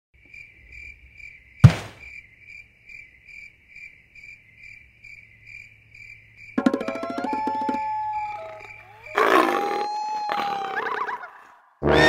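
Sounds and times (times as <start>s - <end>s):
cricket chirping: 0.2s - 11.2s.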